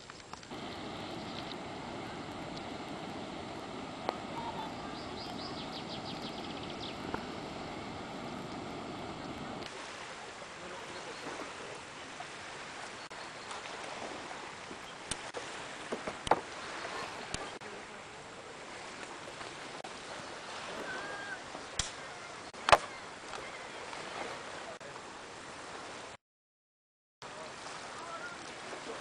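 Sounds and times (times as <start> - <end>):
steady outdoor hiss: 0.0 - 26.2, 27.2 - 29.0.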